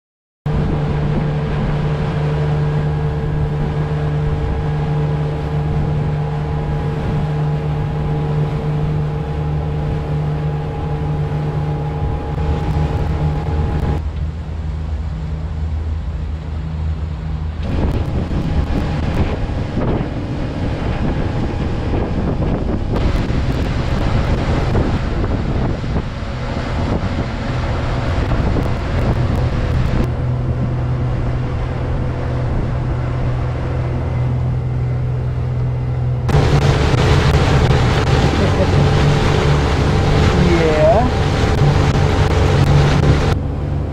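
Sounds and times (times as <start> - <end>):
boat motor humming: 0.5 - 43.9
wind on microphone: 0.5 - 43.9.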